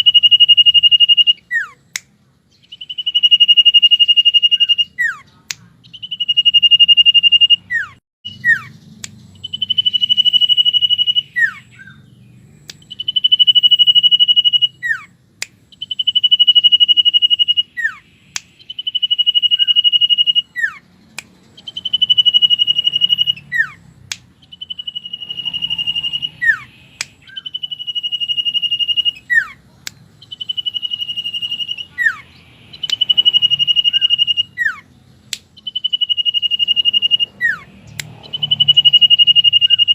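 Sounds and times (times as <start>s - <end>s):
bird whistling song: 0.0s - 39.9s.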